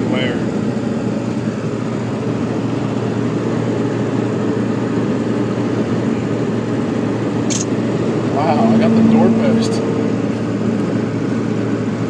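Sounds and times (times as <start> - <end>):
engine drone: 0.0 - 12.0
road and wind noise: 0.0 - 12.0.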